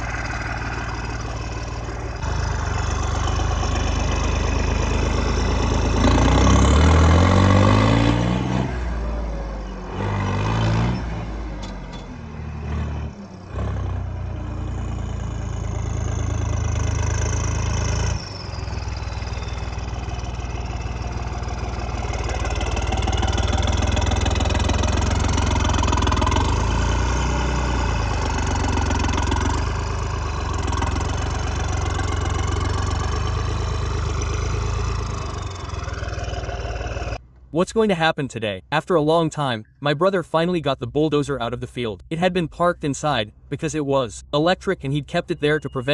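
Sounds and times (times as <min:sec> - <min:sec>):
diesel engine revving and running: 0:00.0 - 0:38.0.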